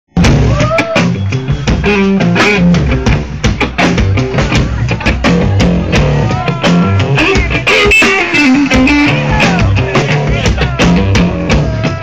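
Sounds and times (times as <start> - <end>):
drum kit: 0.1 - 12.0
electric guitar riff: 0.2 - 12.0.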